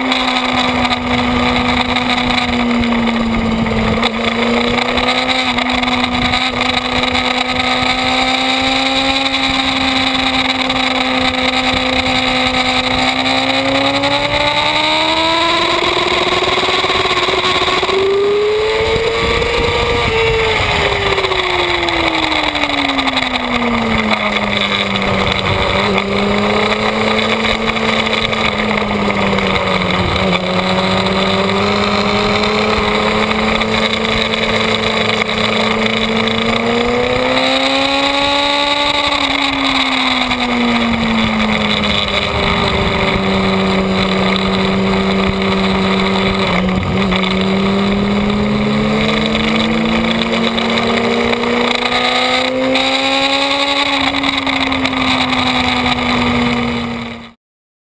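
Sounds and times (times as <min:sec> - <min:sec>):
motorcycle engine running: 0:00.0 - 0:57.4
wind noise: 0:00.0 - 0:57.4.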